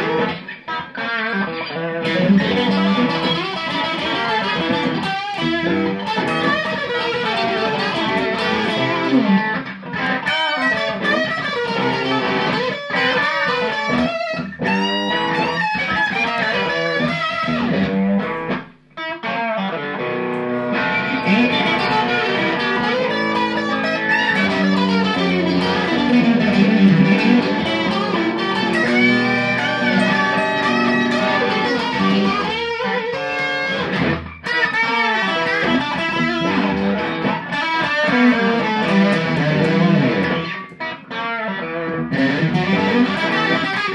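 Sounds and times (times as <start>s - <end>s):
electric guitar through amplifier: 0.0s - 43.9s.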